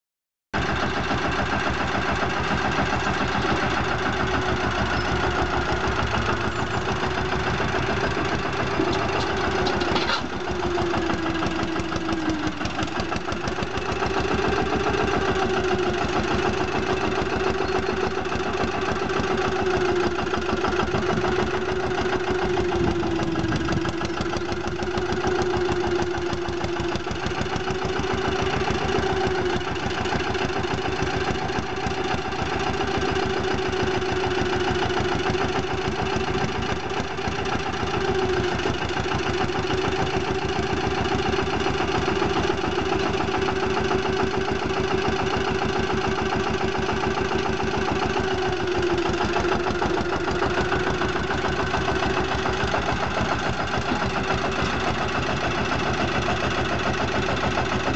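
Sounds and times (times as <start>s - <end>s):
diesel engine running steadily: 0.6s - 57.9s.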